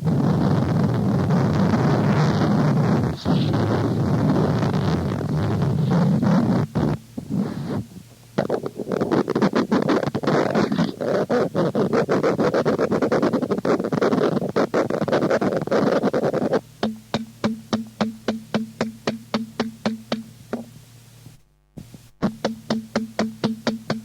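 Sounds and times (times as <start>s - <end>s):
noise music scratching and scraping: 0.0s - 20.7s.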